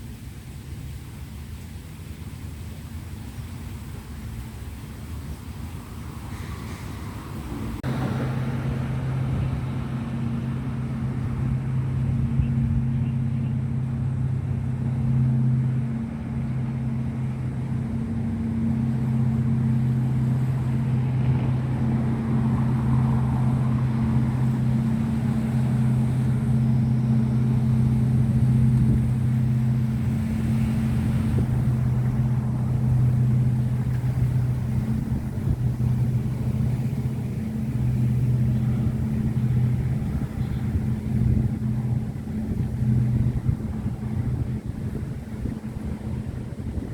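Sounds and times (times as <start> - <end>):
engine droning steadily: 0.0 - 46.9.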